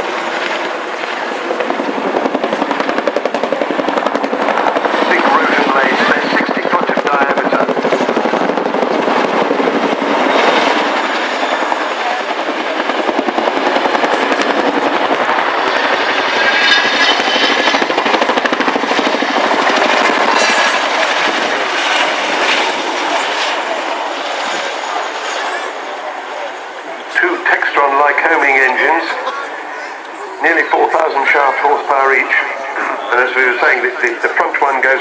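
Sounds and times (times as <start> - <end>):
helicopter rotor blades chopping: 0.0 - 35.0.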